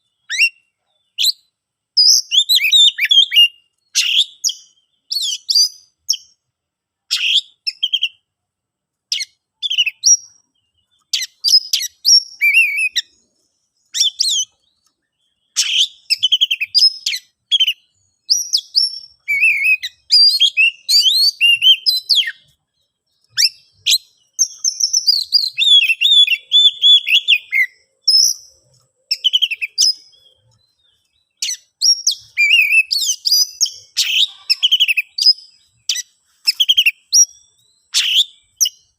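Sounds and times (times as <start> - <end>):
bird singing whistles and chirps: 0.0 - 6.4, 7.1 - 8.2, 9.1 - 38.9.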